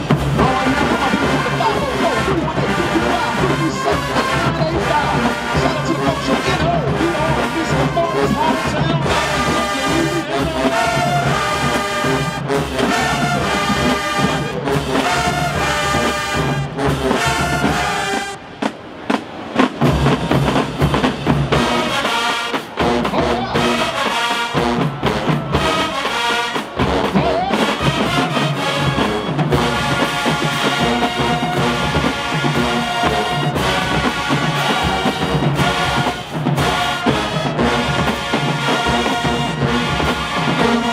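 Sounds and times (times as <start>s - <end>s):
marching band brass playing: 0.0s - 40.9s
marching drums: 0.0s - 40.9s.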